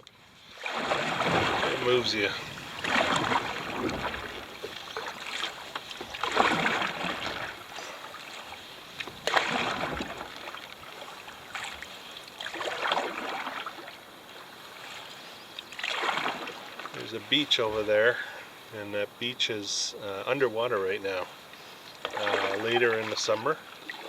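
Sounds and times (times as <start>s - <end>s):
paddle strokes splashing in water: 0.0s - 18.7s, 20.7s - 24.0s.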